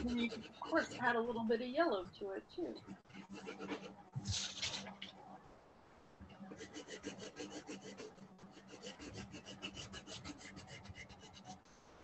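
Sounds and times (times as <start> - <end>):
pencil scratching on paper: 0.0 - 4.9, 6.3 - 11.7.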